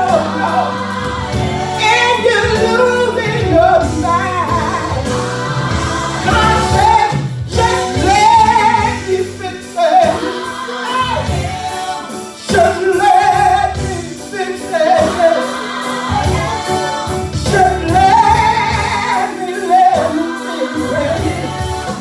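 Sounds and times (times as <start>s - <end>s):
choir singing: 0.0s - 22.0s
instrumental accompaniment: 0.0s - 22.0s
person singing gospel: 0.0s - 22.0s.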